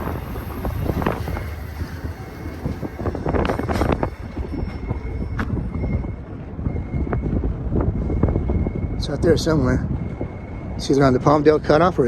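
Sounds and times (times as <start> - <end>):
freight train rolling past: 0.0 - 12.0
wheel clatter over rail joints: 0.0 - 12.0.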